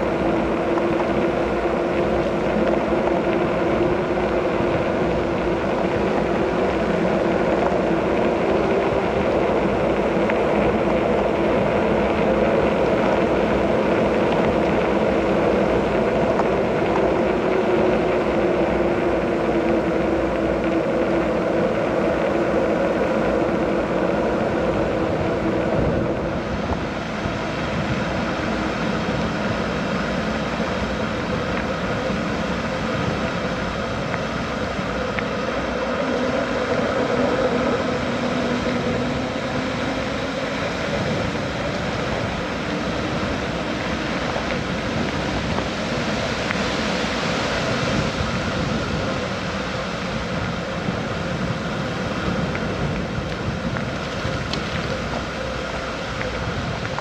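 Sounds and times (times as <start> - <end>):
tyre noise on road: 0.0 - 57.0.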